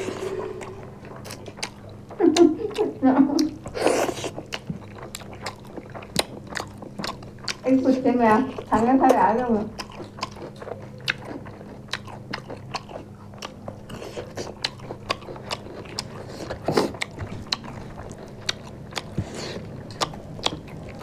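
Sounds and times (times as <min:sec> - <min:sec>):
chewing and biting food: 0:00.5 - 0:21.0.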